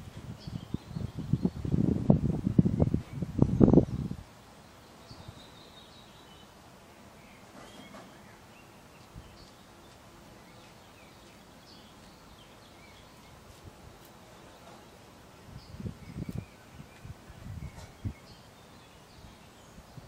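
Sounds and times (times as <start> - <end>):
faint outdoor ambience: 0.0 - 20.0
small birds chirping: 0.0 - 20.0.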